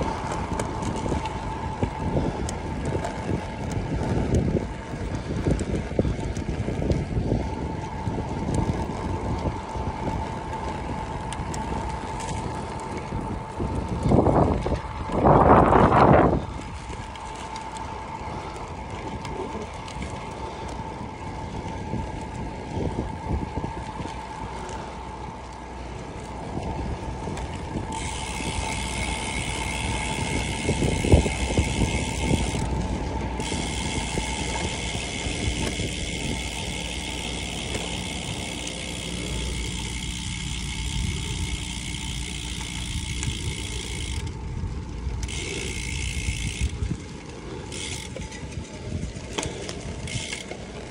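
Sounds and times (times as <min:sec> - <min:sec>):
bicycle tyres rolling: 0:00.0 - 0:50.9
freewheel buzzing: 0:00.0 - 0:50.9
wind on microphone: 0:00.0 - 0:50.9.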